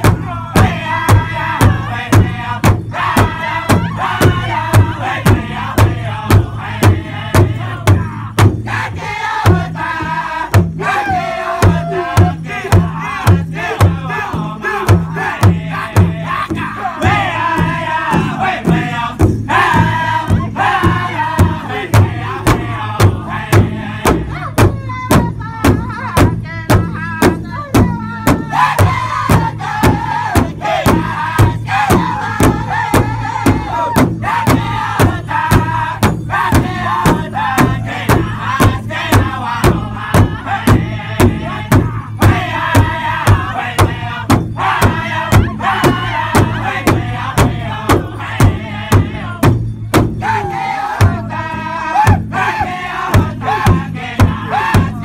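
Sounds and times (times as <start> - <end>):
large drum beating: 0.0 - 55.0
men singing in high voices: 0.0 - 55.0.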